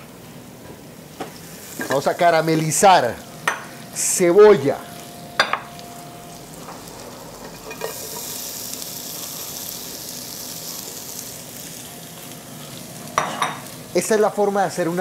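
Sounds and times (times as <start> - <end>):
onion sizzling in butter: 1.2 - 15.0.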